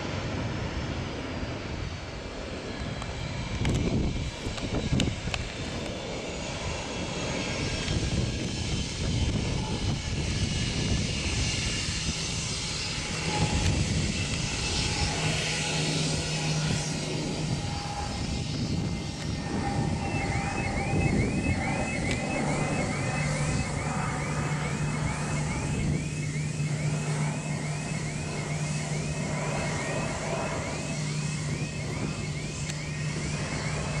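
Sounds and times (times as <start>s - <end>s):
jet engines rumbling: 0.0s - 34.0s.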